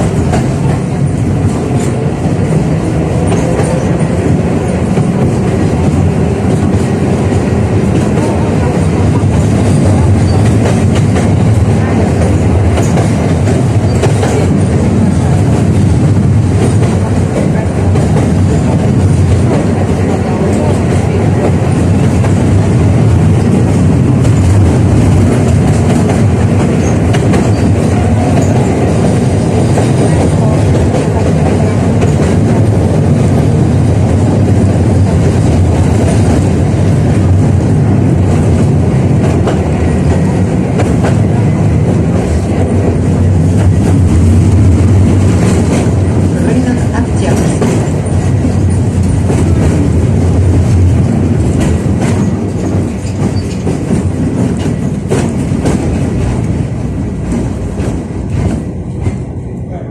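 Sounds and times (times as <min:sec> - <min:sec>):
tram wheels on rails: 0:00.0 - 0:59.9.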